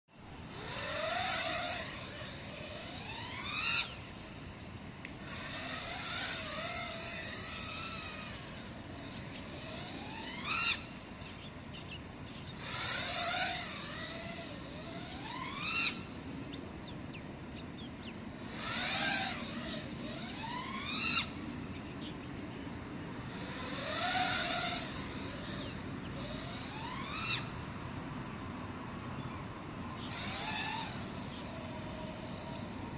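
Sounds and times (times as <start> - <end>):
quadcopter motors whining: 0.1 - 32.9
sharp rising motor sweeps: 0.2 - 21.8, 22.6 - 32.9.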